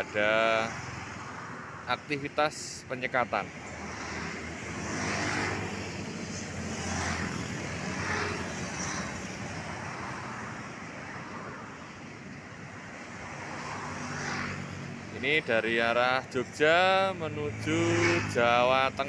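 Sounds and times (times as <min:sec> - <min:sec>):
cars passing: 0:00.0 - 0:19.0
motorcycles passing: 0:00.0 - 0:19.0.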